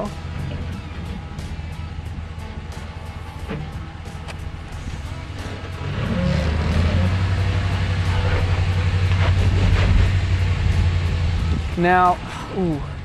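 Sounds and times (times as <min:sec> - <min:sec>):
background music: 0:00.0 - 0:13.0
truck engine pulling under throttle: 0:00.0 - 0:13.0.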